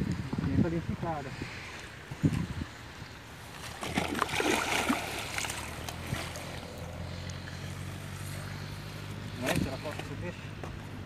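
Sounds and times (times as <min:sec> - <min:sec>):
water splashing and sloshing: 0:01.4 - 0:10.9.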